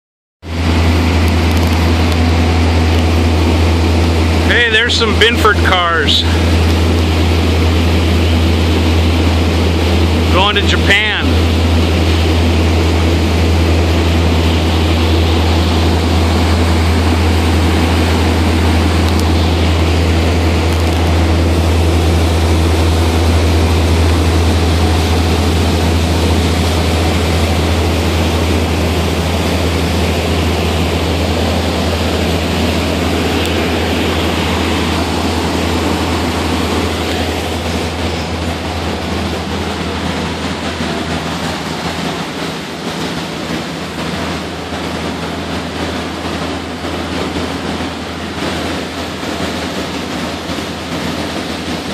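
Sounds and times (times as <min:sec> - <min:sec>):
motorboat engine running: 0:00.4 - 0:51.9
water noise: 0:00.5 - 0:51.9.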